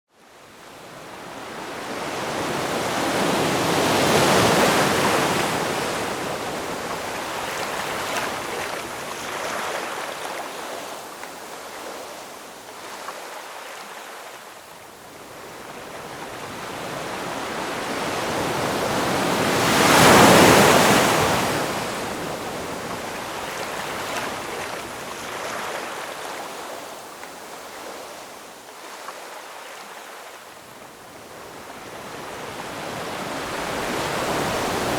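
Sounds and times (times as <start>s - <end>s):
ocean waves breaking: 1.0s - 14.4s, 15.2s - 30.4s, 31.2s - 34.9s.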